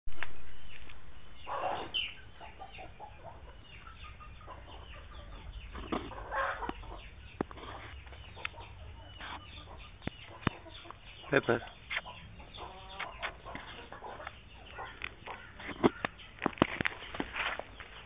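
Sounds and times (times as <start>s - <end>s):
birds clucking calls: 0.1s - 18.0s.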